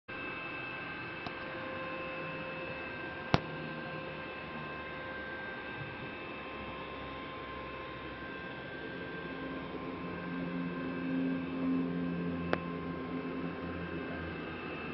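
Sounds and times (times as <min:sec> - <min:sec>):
faint steady hum: 0:00.2 - 0:14.9.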